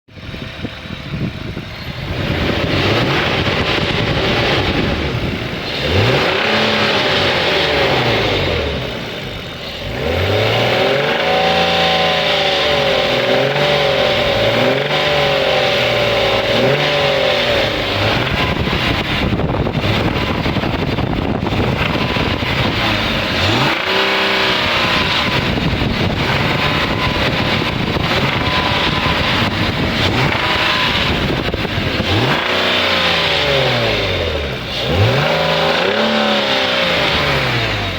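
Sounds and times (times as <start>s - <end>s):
engine rattle: 0.1s - 37.9s
car engine revving: 0.2s - 37.9s.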